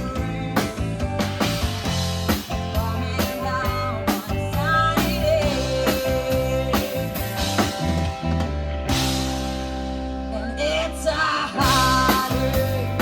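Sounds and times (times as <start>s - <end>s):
drum kit beat: 0.0s - 10.2s, 11.5s - 13.0s
bass: 0.0s - 13.0s
bent melodic guitar line: 0.0s - 13.0s.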